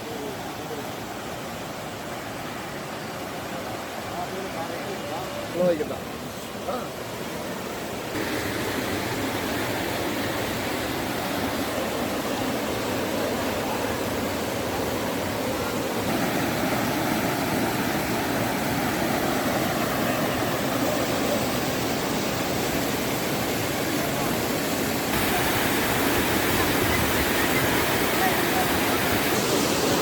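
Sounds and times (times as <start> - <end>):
rushing water hiss: 0.0 - 30.0.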